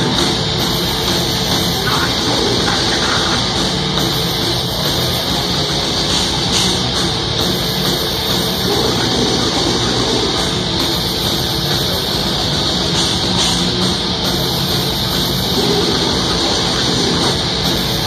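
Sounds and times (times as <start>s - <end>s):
bass guitar: 0.0s - 18.0s
distorted electric guitars: 0.0s - 18.0s
drum kit: 0.0s - 18.0s.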